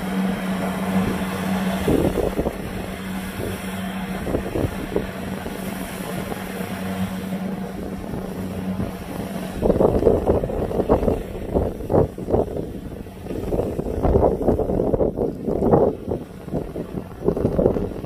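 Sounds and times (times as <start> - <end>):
combine harvester diesel engine humming: 0.0 - 18.0.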